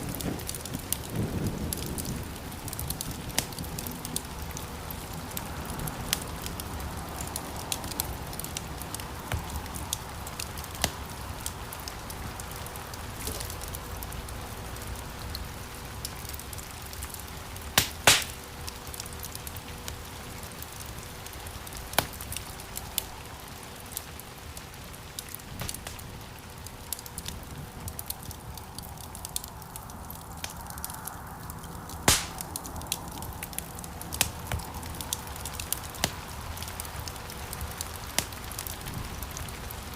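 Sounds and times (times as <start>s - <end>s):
fireplace fire crackling: 0.0s - 39.9s
loud fire snaps: 0.0s - 39.9s.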